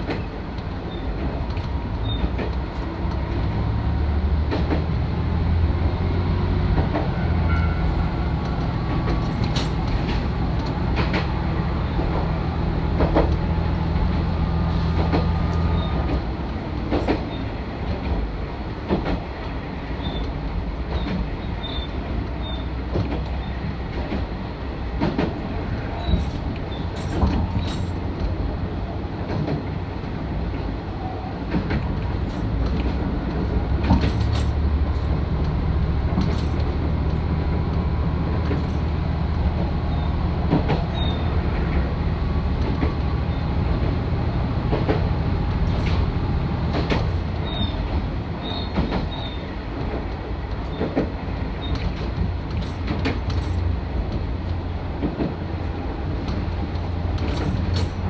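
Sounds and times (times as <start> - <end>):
wheels clacking over rail joints: 0.0 - 58.0.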